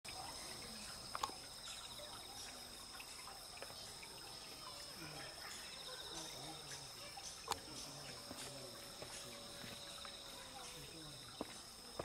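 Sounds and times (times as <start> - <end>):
high-pitched insect chorus: 0.1 - 12.0.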